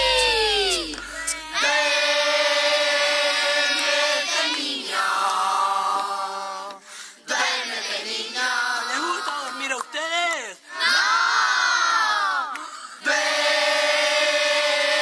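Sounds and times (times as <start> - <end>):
choir-like singing: 0.0 - 9.1, 10.7 - 15.0.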